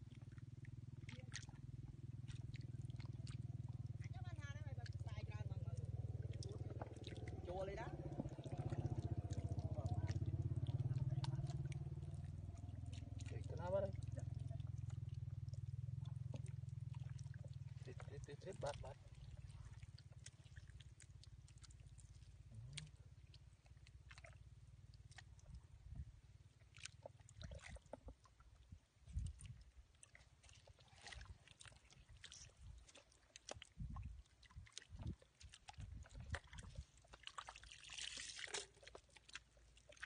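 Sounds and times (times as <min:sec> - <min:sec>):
low steady rumble: 0:00.0 - 0:40.0
hands squelching in wet mud: 0:04.9 - 0:25.8, 0:26.5 - 0:40.0.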